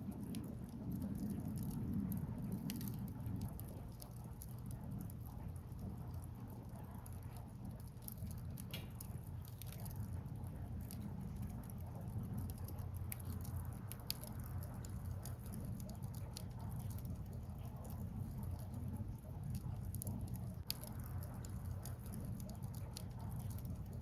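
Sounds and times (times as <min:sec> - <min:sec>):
firewood crackling and popping: 0:00.0 - 0:24.0.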